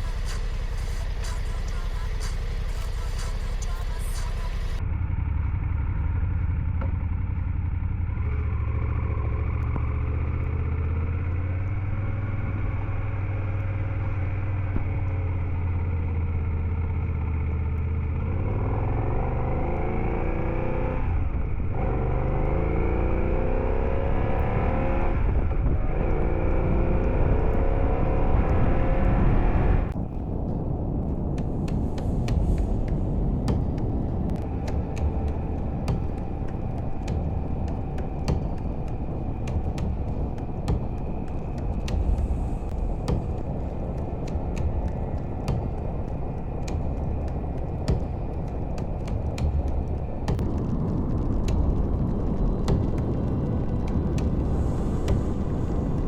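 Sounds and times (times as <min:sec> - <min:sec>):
motorcycle engine accelerating: 0:04.4 - 0:56.0.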